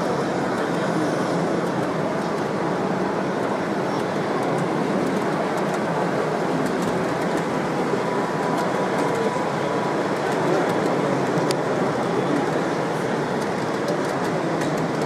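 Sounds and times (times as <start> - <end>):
faint clicks of model train: 0.0 - 15.0
steady background noise: 0.0 - 15.0.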